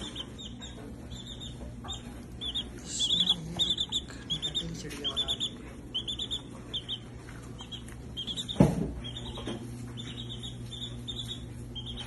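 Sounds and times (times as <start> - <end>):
baby chick peeping: 0.0 - 12.0.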